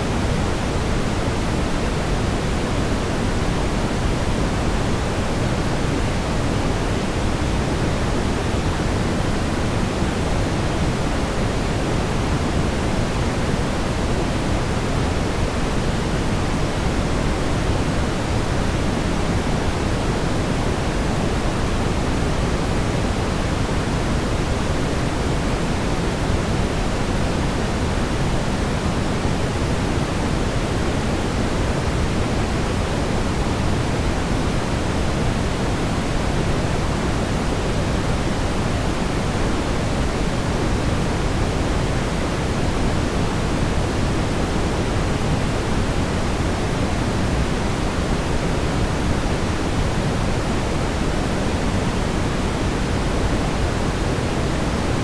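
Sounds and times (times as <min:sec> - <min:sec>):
brown noise rumbling hiss: 0:00.0 - 0:55.0.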